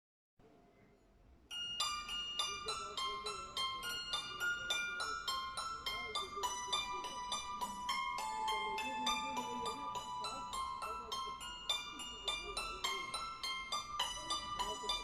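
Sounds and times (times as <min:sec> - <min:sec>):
hammered dulcimer notes: 0:01.5 - 0:15.0.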